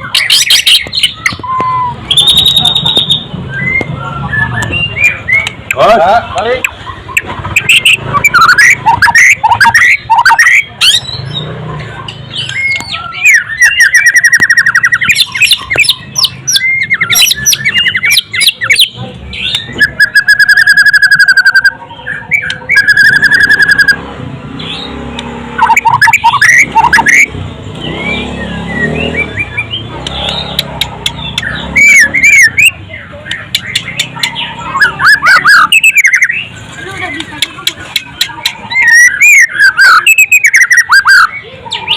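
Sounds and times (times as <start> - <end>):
bird singing loudly: 0.0 - 11.6, 12.3 - 24.0, 24.6 - 41.9.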